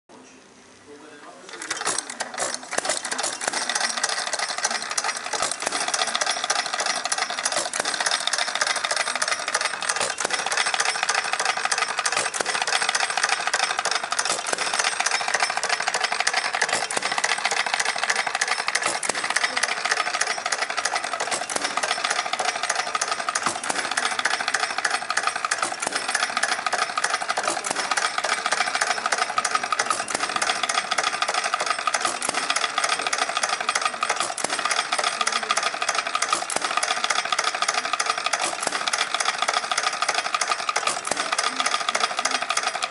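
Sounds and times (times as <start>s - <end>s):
gas engine clattering: 1.5s - 42.9s.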